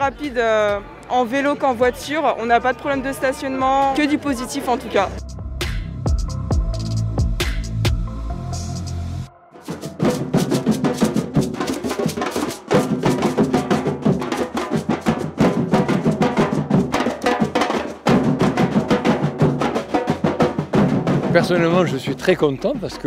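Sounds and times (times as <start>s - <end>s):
drum group playing fast rhythm: 3.6s - 8.9s, 9.6s - 23.0s.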